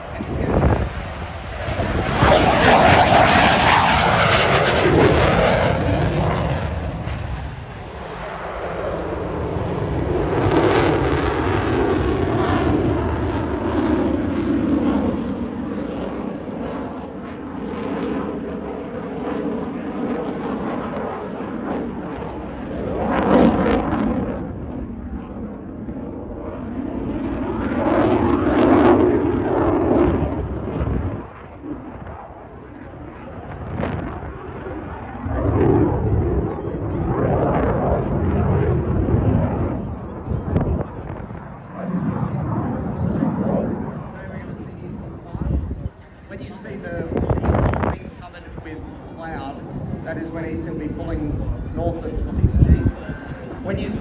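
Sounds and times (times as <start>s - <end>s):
fighter jet engines roaring: 0.0s - 54.0s.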